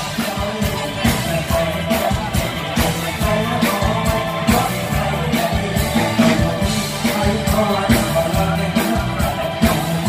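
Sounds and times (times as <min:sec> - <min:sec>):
band playing dance music: 0:00.0 - 0:10.0
person singing: 0:00.0 - 0:10.0
steady drum beat: 0:00.0 - 0:10.0.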